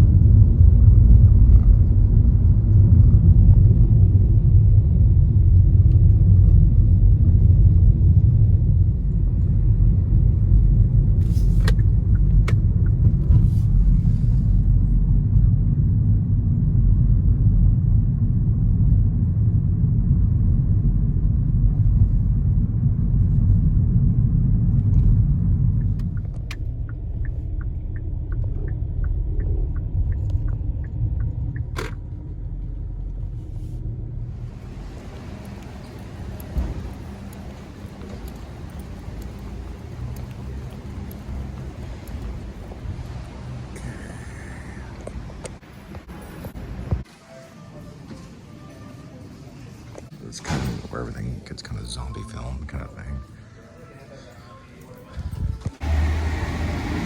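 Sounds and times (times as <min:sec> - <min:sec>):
steady low rumble: 0:00.0 - 0:47.1.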